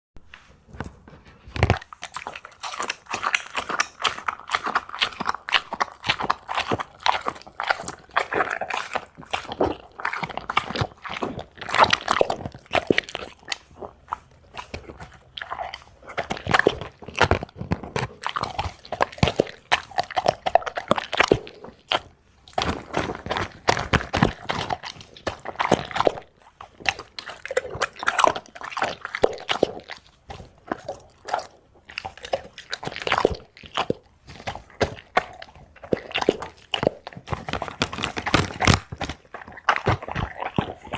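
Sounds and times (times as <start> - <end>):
dog chewing and crunching food: 0.2 - 40.9.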